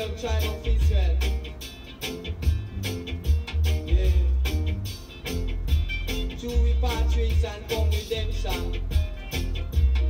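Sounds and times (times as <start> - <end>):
reggae record playing: 0.0 - 10.0.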